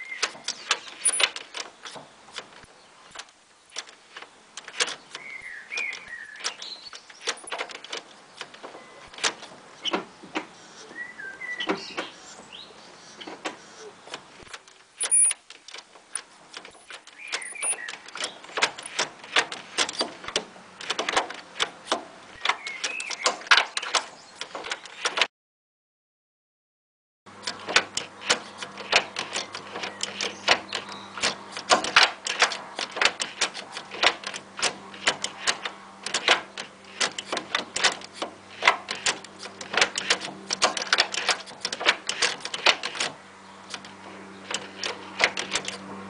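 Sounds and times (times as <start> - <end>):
shifter clicks and clunks: 0.0 - 11.0, 13.2 - 25.3, 27.3 - 45.9
gear shifter squeaking: 0.0 - 25.3, 27.3 - 45.9.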